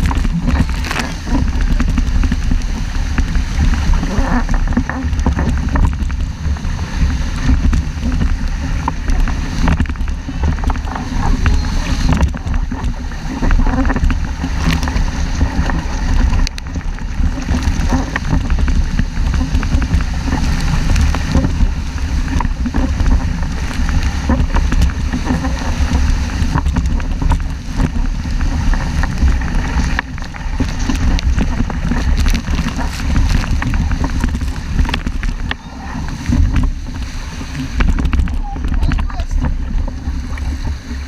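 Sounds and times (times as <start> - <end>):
water rushing along hull: 0.0 - 41.0
wind rumbling on microphone: 0.0 - 41.0.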